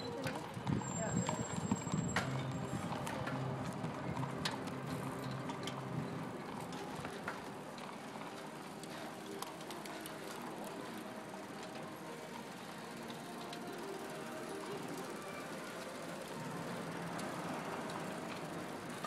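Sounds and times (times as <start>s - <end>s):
wind and tyre noise: 0.0s - 19.0s.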